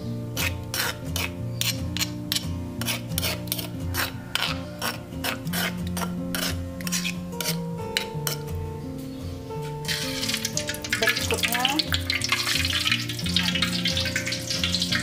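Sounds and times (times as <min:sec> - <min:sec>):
background music: 0:00.0 - 0:15.0
metal spoon scraping stone mortar: 0:00.3 - 0:08.6, 0:09.6 - 0:15.0.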